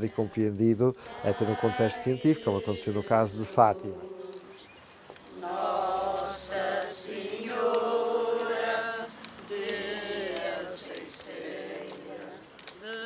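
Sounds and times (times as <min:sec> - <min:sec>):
group singing a hymn: 0:00.0 - 0:13.0.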